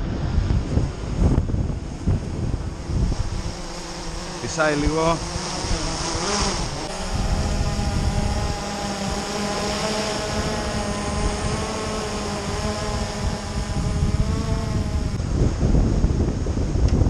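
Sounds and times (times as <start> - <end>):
drone propellers whining: 0.0 - 15.4
wind buffeting microphone: 0.0 - 17.0.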